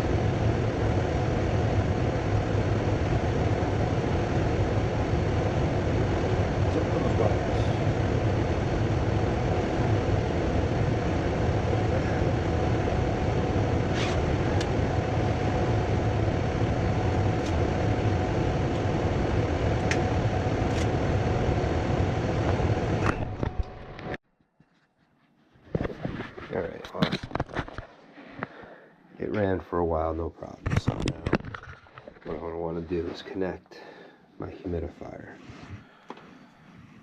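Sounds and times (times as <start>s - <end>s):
gas furnace running: 0.0s - 24.2s, 28.4s - 37.0s.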